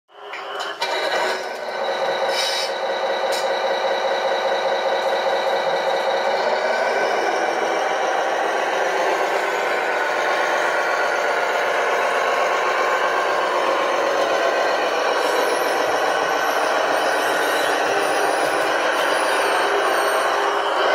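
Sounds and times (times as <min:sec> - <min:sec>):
toy truck motor whirring: 0:00.4 - 0:20.9.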